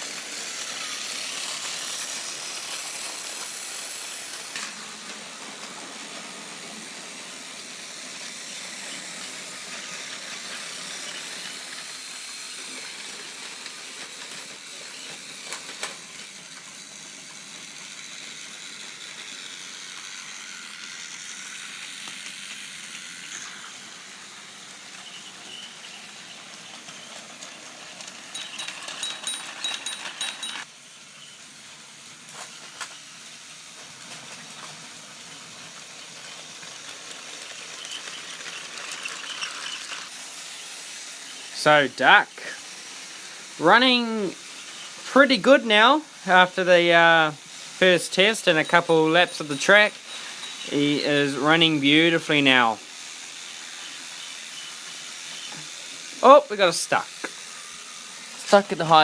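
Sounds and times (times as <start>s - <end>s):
toy train motor whirring: 0.0s - 59.0s.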